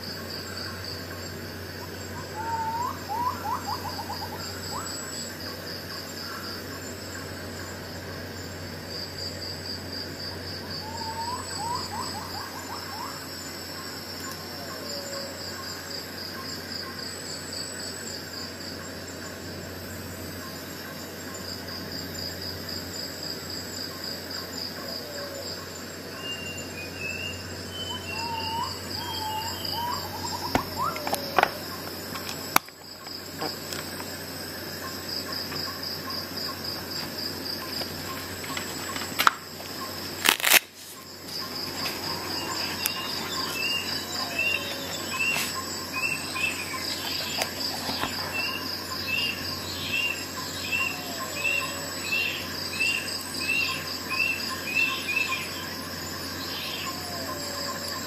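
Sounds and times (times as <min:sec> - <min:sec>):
birds singing: 0:00.0 - 0:08.8, 0:10.3 - 0:19.4, 0:23.9 - 0:40.2, 0:40.9 - 0:58.0
insect trill: 0:00.0 - 0:58.0.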